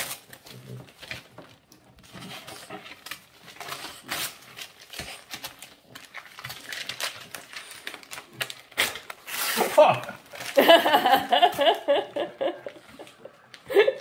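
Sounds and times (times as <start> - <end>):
paper crinkling and tearing: 0.0 - 11.9.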